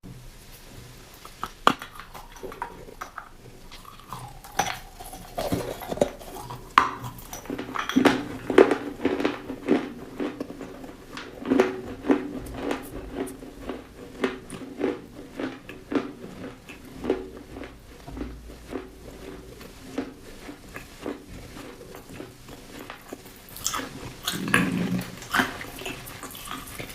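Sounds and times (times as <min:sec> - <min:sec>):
chewing crunchy food: 0:00.5 - 0:26.9.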